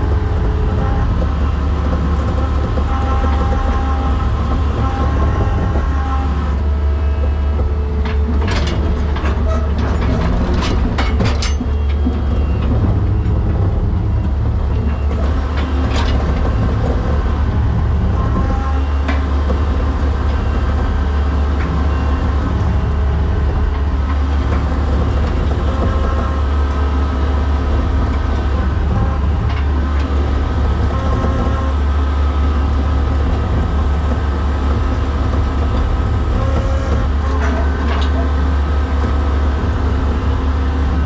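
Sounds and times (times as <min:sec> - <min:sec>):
skid steer engine rumbling: 0:00.0 - 0:41.0.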